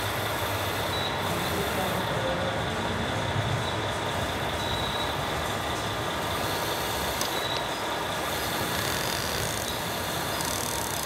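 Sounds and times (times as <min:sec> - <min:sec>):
model trucks running: 0:00.0 - 0:11.0.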